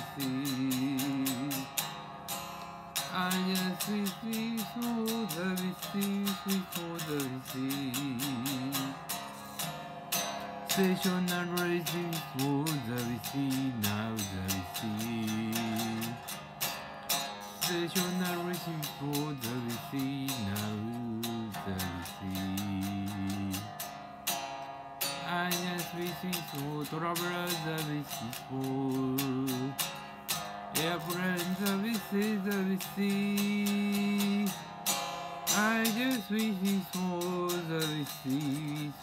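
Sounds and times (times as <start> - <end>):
electric guitar melody: 0.0 - 39.0.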